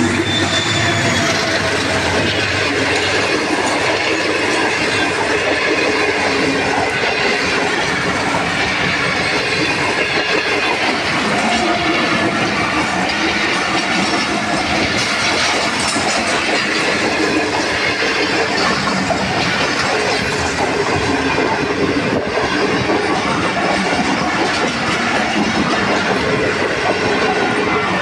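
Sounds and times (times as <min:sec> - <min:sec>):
train wheels clattering over rail joints: 0:00.0 - 0:28.0.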